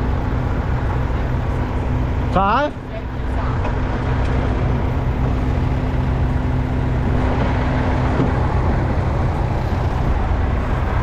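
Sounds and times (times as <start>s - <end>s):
higher steady hum: 0.0s - 11.0s
tractor engine running: 0.0s - 11.0s.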